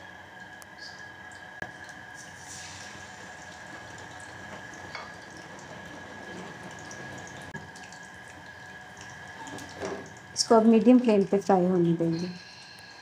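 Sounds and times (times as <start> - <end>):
chicken frying in oil: 0.8 - 12.1.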